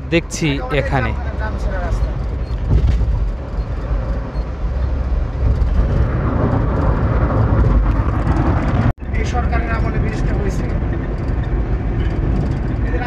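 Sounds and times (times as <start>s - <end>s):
car driving at highway speed: 0.0s - 13.0s.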